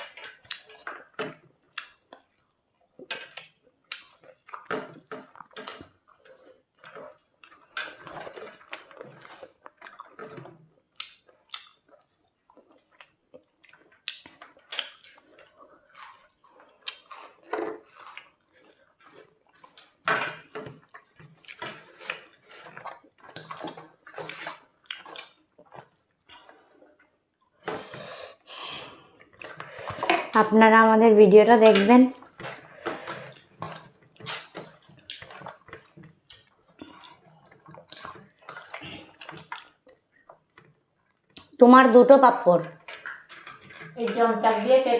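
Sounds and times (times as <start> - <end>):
wet chewing and smacking: 0.0 - 30.4, 32.1 - 41.6, 42.7 - 44.1.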